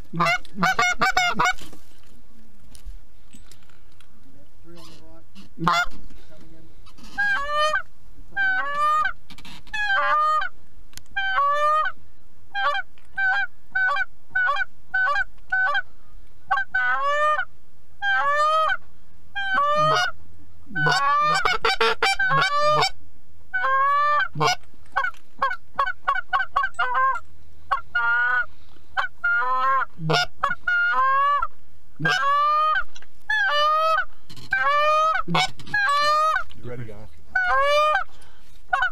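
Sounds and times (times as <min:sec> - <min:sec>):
goose honks and clucks: 0:00.1 - 0:01.7, 0:04.7 - 0:06.0, 0:06.9 - 0:15.9, 0:16.5 - 0:36.6, 0:37.3 - 0:38.1, 0:38.7 - 0:38.9.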